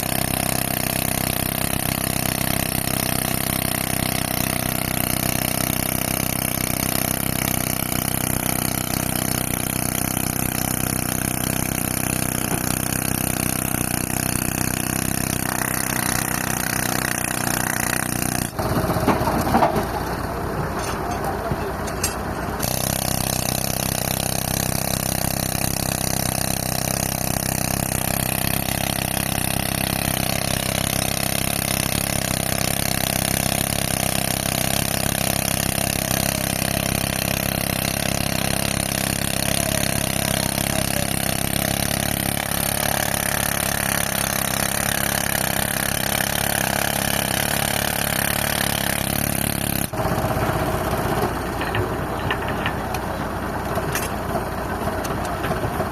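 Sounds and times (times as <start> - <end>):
pneumatic rock drill hammering: 0.0 - 55.9
tractor engine running: 0.0 - 55.9.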